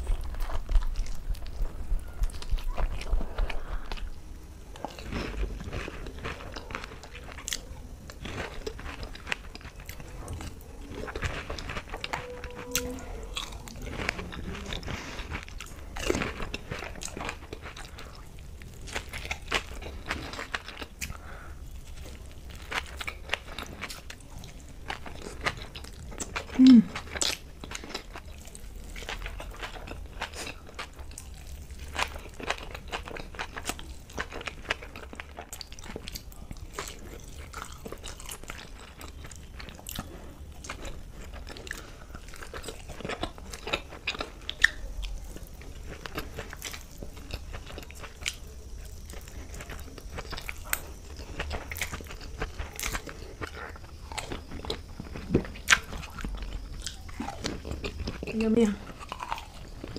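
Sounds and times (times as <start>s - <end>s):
crunchy food chewing: 0.0s - 59.9s.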